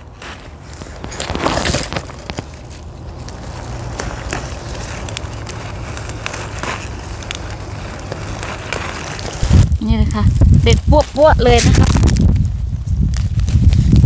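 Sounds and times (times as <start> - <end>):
plant stems snapping: 0.0 - 14.0
steady low rumble: 1.9 - 14.0.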